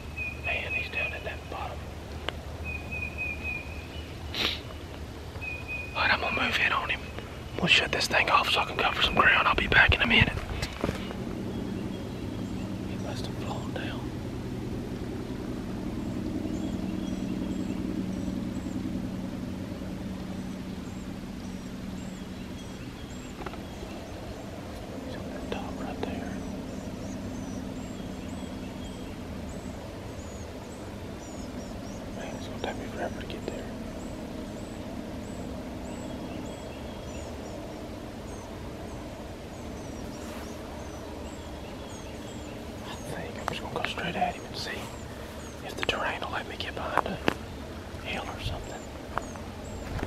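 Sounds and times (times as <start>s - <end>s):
bird chirping: 0.0s - 14.1s, 16.0s - 19.0s, 19.7s - 50.0s
low engine drone: 0.0s - 50.0s.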